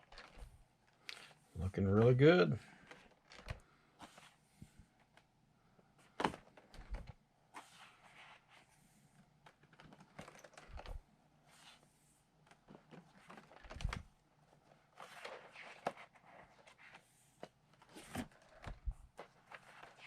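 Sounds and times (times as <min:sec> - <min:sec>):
paper pages rustling: 0:00.0 - 0:02.2, 0:02.8 - 0:04.4, 0:06.0 - 0:08.8, 0:09.4 - 0:20.0.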